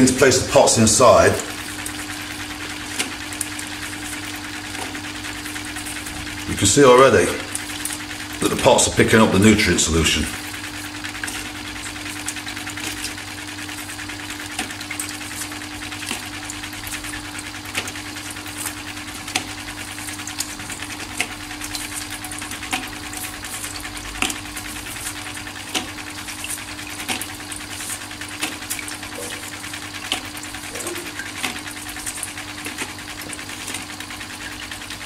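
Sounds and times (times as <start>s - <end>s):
water pump humming: 0.0s - 35.0s.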